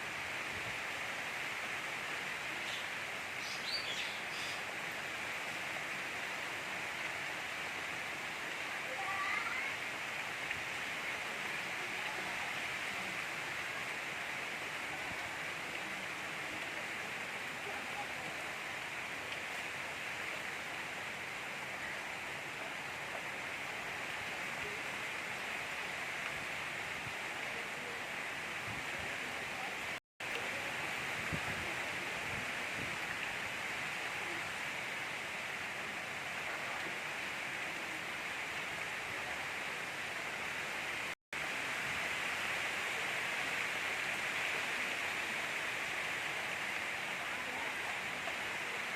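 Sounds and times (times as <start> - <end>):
gentle rain falling: 0.0 - 48.9.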